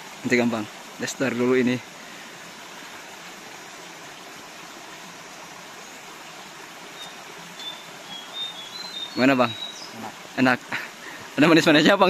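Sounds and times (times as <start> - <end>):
spring water running: 0.0 - 12.0.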